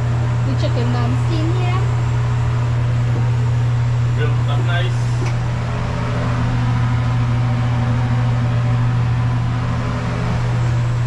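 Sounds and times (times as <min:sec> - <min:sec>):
gas burner humming: 0:00.0 - 0:11.0.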